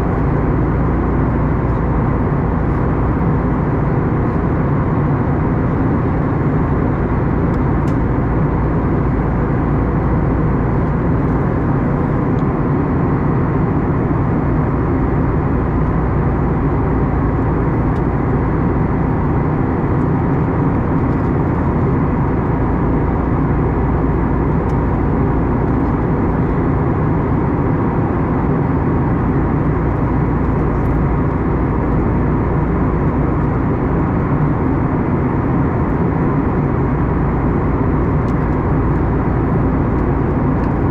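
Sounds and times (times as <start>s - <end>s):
airplane cabin roar: 0.0s - 40.9s.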